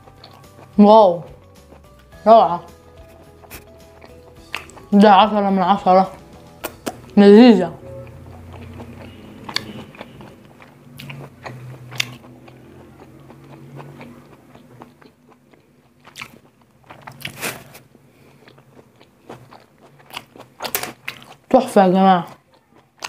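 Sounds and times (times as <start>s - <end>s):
chewing food: 0.0s - 7.2s, 7.8s - 23.0s.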